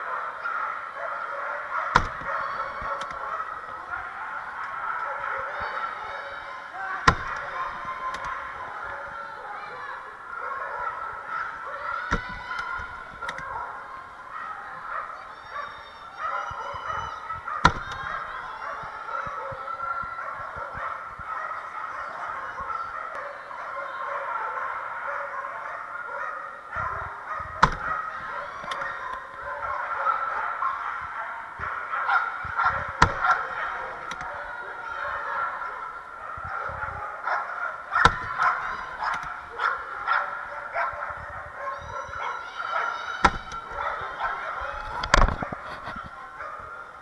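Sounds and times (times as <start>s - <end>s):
many dogs barking and yelping: 0.0s - 47.0s.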